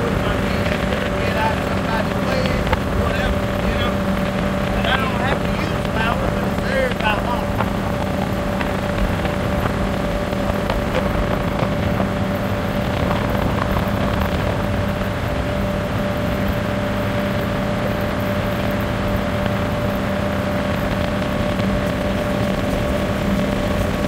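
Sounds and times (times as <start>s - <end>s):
motorboat engine droning: 0.0s - 24.0s
water rushing: 0.0s - 24.0s
wind: 0.0s - 24.0s.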